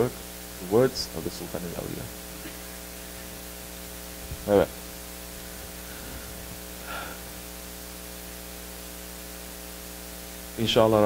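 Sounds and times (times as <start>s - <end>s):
electrical mains hum and hiss: 0.0s - 11.0s.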